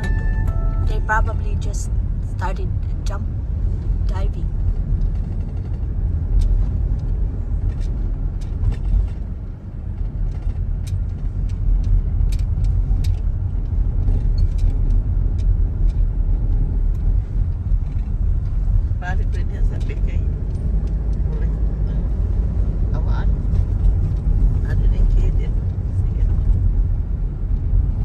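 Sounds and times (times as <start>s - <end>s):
car rumble from inside cabin: 0.0s - 28.0s.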